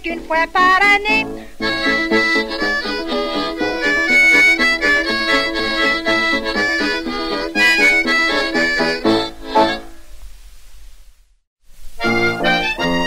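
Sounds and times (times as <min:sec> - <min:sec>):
accordion folk melody: 0:00.0 - 0:10.0, 0:12.0 - 0:13.0
oom-pah bass: 0:00.0 - 0:10.1, 0:12.0 - 0:13.0.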